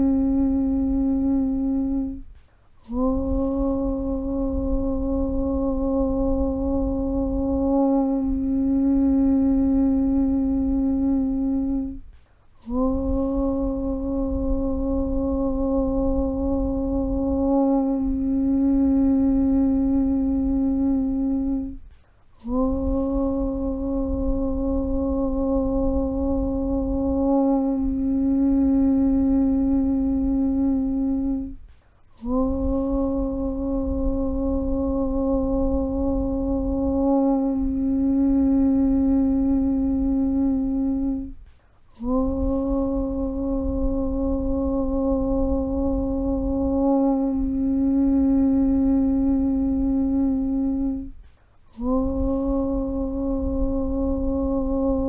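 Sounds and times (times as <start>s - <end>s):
low rumble: 0.0s - 55.0s
person chanting on one low pitch: 0.0s - 55.0s.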